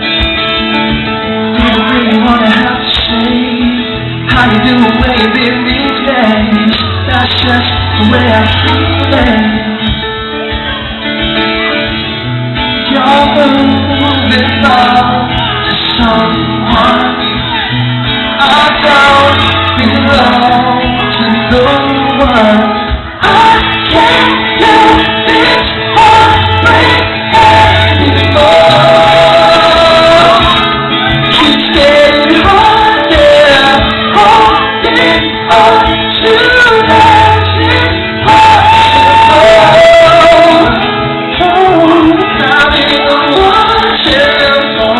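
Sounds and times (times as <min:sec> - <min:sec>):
live pop-rock band: 0:00.0 - 0:44.9
person singing: 0:00.0 - 0:44.9.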